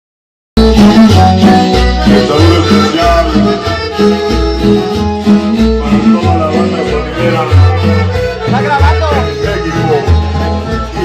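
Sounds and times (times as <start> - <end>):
accordion: 0.6 - 11.0
bass line: 0.6 - 11.0
latin dance music: 0.6 - 11.0.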